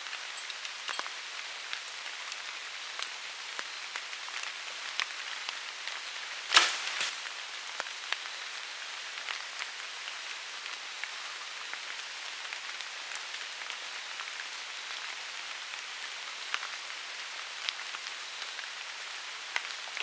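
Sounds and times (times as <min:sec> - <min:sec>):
rain pattering on leaves: 0:00.0 - 0:20.0.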